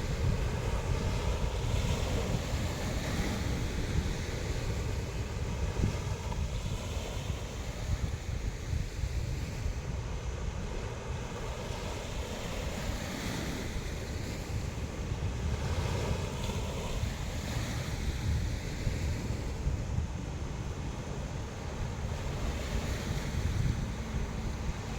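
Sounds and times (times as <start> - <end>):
sea waves on shore: 0.0 - 24.9
wind buffeting microphone: 0.0 - 24.9.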